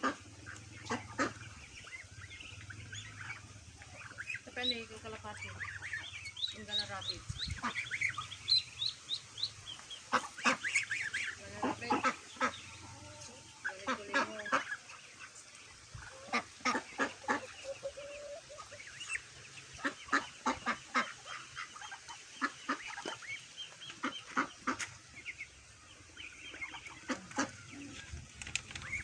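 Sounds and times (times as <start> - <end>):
poultry honking and clucking: 0.0 - 8.6, 9.7 - 25.4, 26.2 - 28.1.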